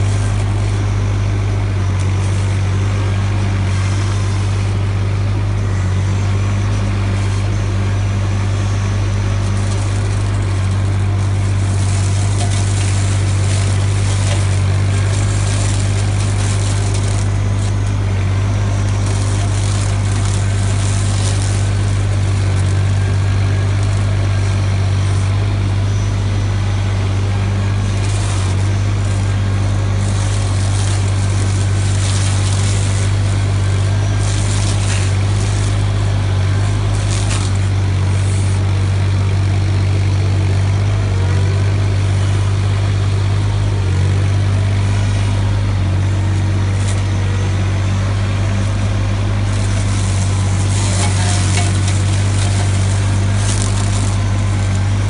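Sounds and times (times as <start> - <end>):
branches crackling and rattling: 0.0 - 40.9, 41.8 - 55.0
excavator flail mower droning: 0.0 - 55.0.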